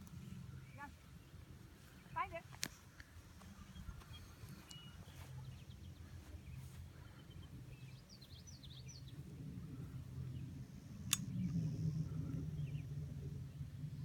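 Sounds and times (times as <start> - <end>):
faint low outdoor rumble: 0.0 - 14.0.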